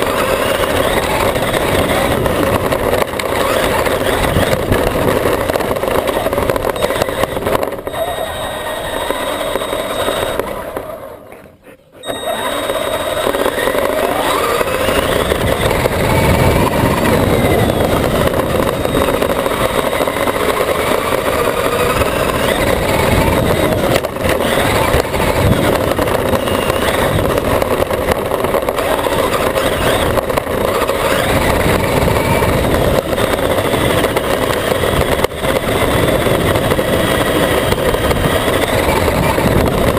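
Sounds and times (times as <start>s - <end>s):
electric motor whine: 0.0s - 39.9s
rushing ride noise: 0.0s - 39.9s.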